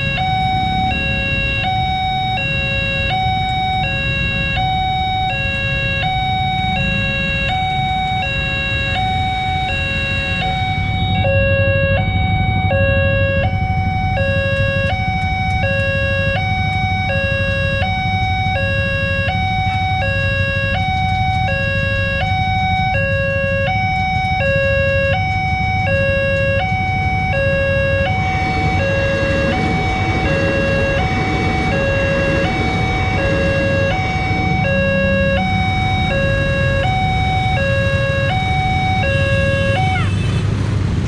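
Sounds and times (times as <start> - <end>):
level crossing two-tone alarm: 0.0 - 40.3
passing passenger train: 0.0 - 41.0.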